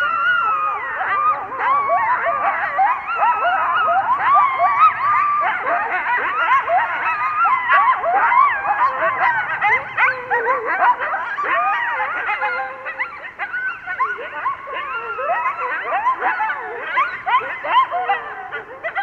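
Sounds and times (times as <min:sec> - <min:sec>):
coyotes yipping and howling: 0:00.0 - 0:19.0.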